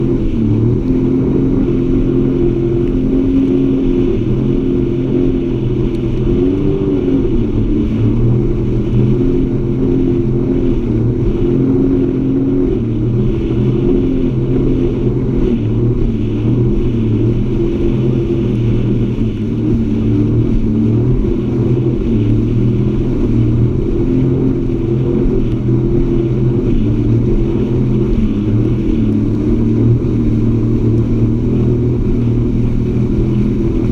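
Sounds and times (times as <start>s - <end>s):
jet ski engine running: 0.0s - 33.9s.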